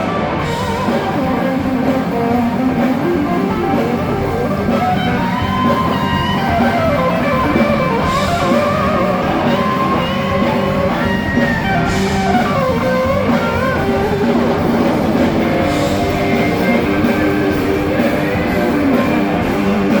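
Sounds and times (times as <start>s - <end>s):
bass guitar: 0.0s - 20.0s
drums: 0.0s - 20.0s
electric guitar: 0.0s - 20.0s.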